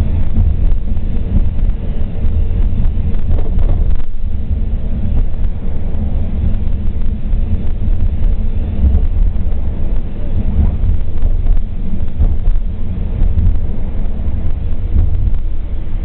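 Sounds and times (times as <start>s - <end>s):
road and engine noise: 0.0s - 16.0s
wind buffeting microphone: 0.0s - 16.0s.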